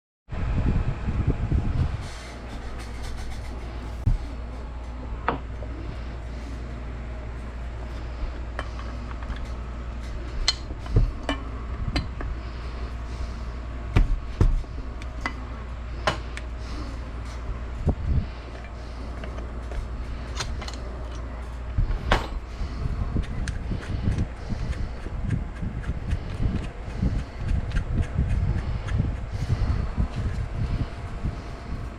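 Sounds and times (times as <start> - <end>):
steady low hum: 0.3 - 31.9.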